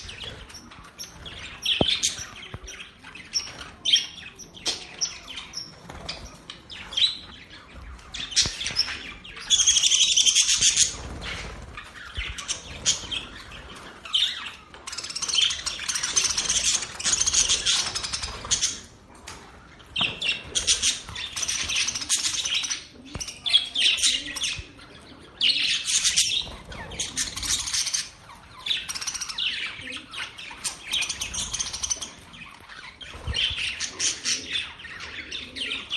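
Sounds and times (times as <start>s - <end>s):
budgerigars chirping and warbling: 0.0s - 35.9s.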